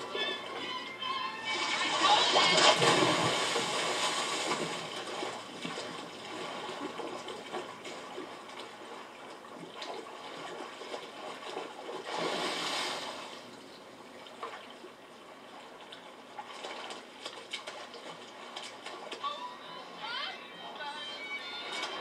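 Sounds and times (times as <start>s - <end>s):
sea water splashing: 0.0s - 19.4s.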